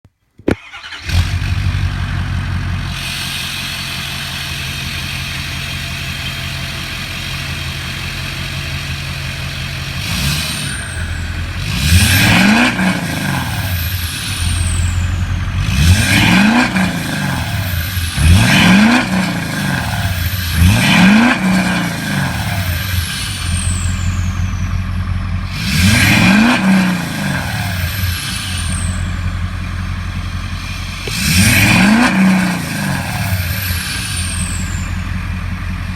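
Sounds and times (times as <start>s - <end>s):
diesel truck engine starting: 0.5s - 35.9s
engine revving: 0.6s - 6.7s, 7.6s - 35.9s
diesel truck engine idling: 0.6s - 35.9s.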